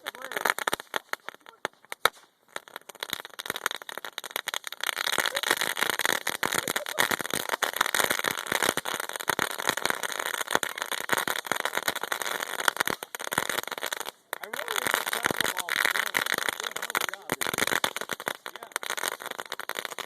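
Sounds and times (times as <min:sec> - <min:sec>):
crackling fireworks: 0:00.0 - 0:20.0.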